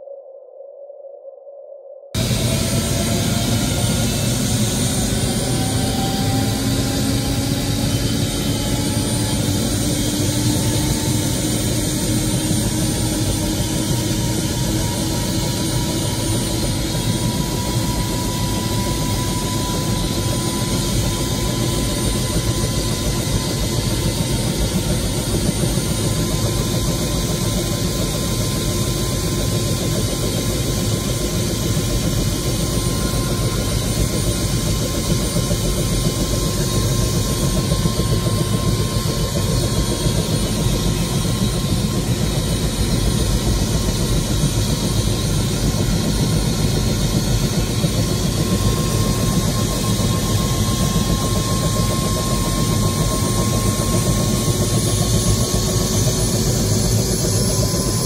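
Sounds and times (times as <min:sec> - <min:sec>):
helicopter engine and rotor: 0:02.2 - 0:58.0.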